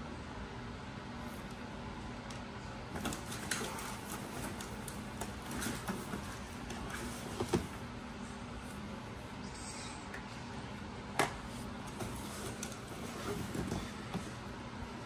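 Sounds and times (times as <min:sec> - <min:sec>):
room noise: 0:00.0 - 0:15.0.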